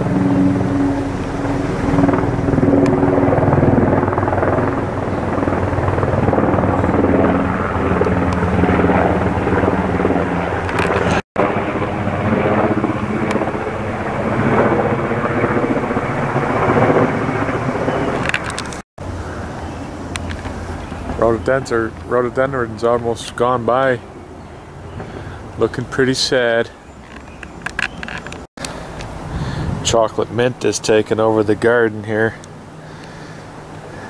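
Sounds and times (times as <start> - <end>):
helicopter engine drone: 0.0 - 34.0
helicopter rotor chopping: 0.0 - 34.0.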